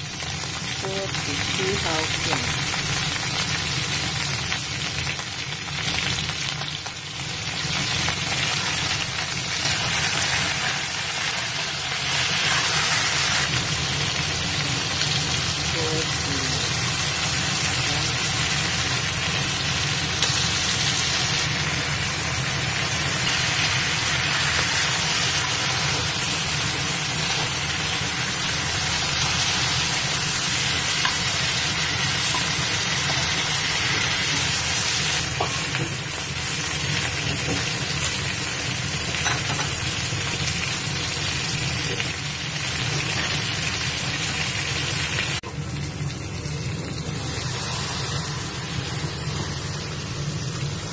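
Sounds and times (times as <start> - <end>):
meat sizzling in a wok: 0.0 - 50.9.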